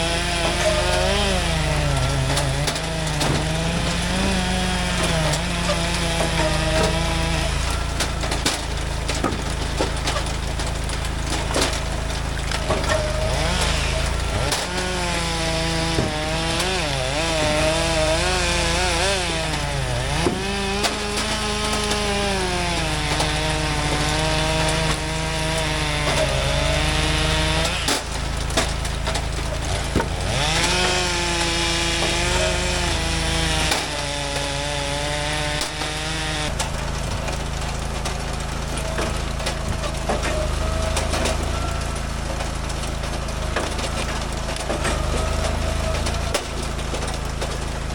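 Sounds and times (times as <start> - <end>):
chainsaw cutting: 0.0 - 47.9.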